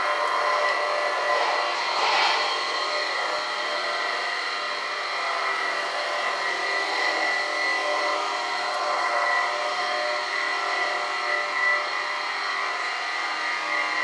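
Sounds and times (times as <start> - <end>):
floor-cleaning machine whining: 0.0 - 14.0.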